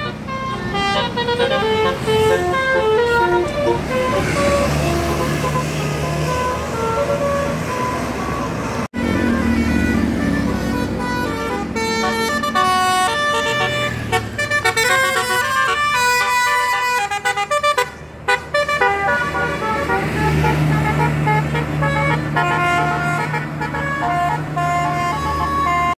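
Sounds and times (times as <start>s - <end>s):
low bus engine drone: 0.0s - 25.9s
multi-tone bus air horn tune: 0.0s - 25.9s.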